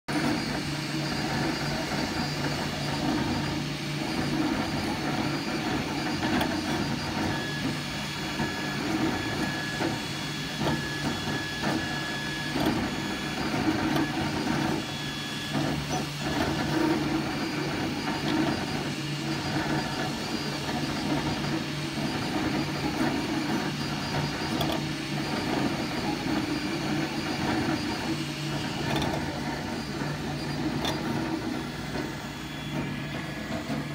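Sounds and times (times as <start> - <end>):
stepper motors whining: 0.1 - 33.9.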